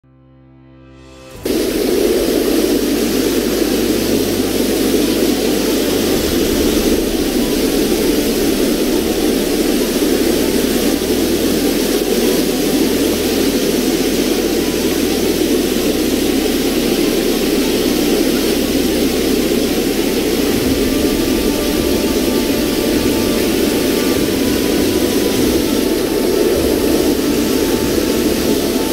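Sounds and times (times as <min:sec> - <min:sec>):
water rushing over rocks: 0:01.4 - 0:28.9.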